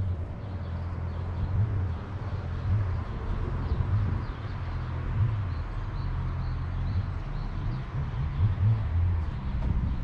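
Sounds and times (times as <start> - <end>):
steady low rumble: 0.0 - 5.9, 6.9 - 10.0.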